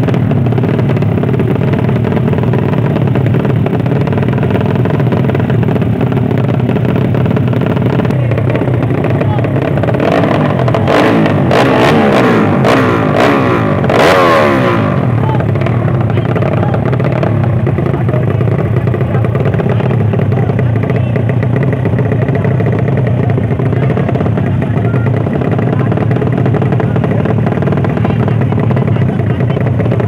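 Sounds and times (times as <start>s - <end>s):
motorcycle engines revving: 0.0s - 30.0s
sharp engine bangs: 0.0s - 30.0s.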